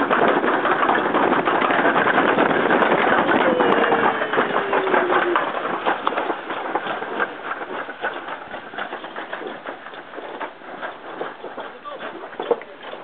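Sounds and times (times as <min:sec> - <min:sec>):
sled wheels rumbling down metal chute: 0:00.0 - 0:13.0.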